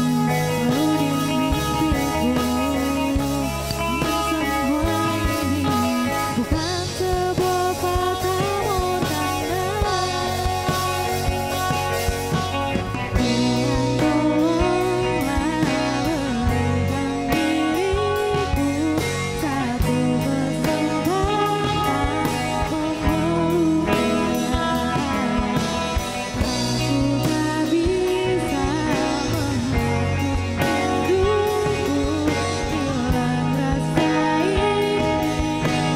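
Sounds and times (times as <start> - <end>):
woman singing into microphone: 0.0 - 11.9, 13.2 - 35.9
live rock band playing: 0.0 - 35.9.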